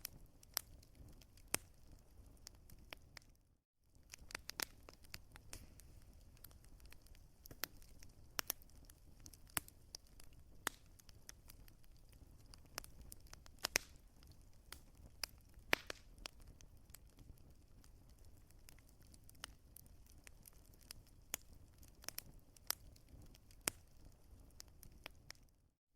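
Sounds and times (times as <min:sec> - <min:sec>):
wood fire crackling: 0:00.0 - 0:25.7.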